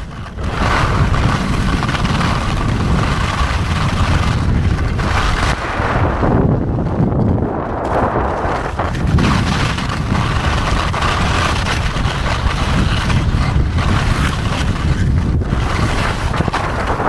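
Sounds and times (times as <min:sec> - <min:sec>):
skis scraping on hard snow: 0:00.0 - 0:17.0
wind buffeting microphone: 0:00.0 - 0:17.0.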